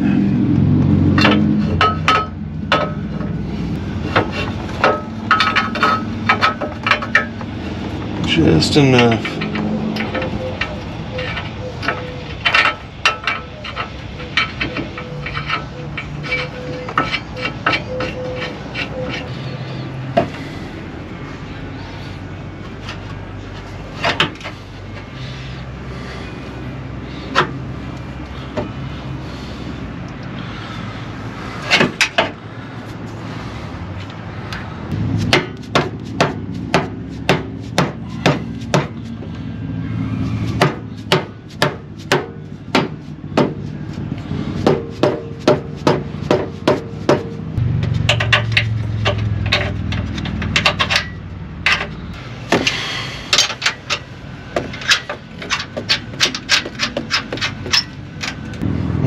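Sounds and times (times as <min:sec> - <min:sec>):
metal scraping: 0:00.9 - 0:29.8, 0:30.4 - 0:58.7.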